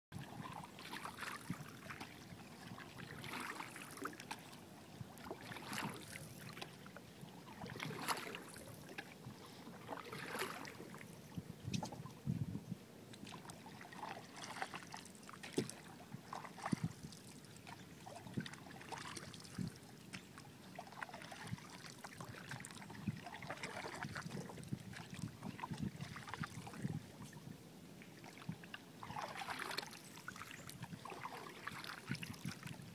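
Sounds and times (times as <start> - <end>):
paddle splashing in water: 0.2 - 11.2, 13.1 - 27.4, 28.1 - 32.9.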